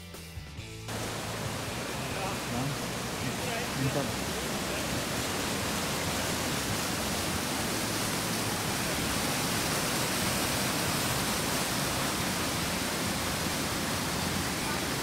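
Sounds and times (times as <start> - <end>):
steady rushing noise: 0.9 - 15.0.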